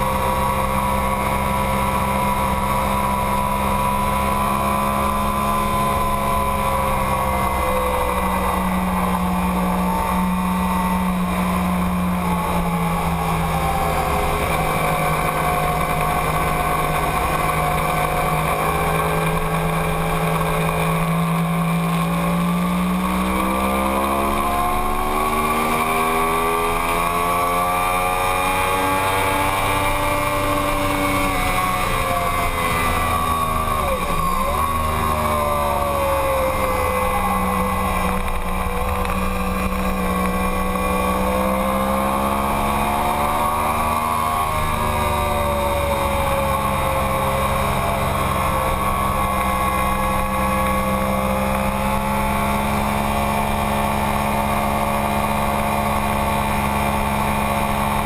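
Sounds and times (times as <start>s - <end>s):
motorcycle engine running hard: 0.0s - 58.0s.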